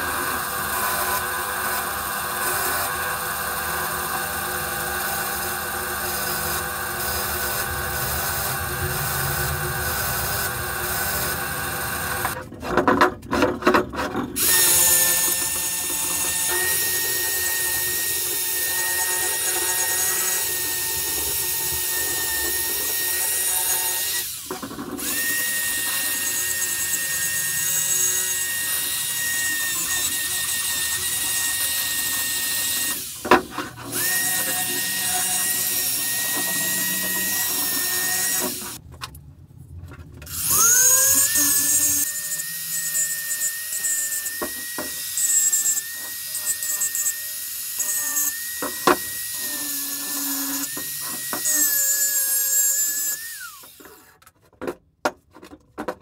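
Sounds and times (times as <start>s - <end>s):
angle grinder spinning up: 0.0s - 12.4s, 14.3s - 38.8s, 40.3s - 54.1s
electric drill wire brush scouring: 0.0s - 12.4s, 14.0s - 38.8s, 40.3s - 54.1s.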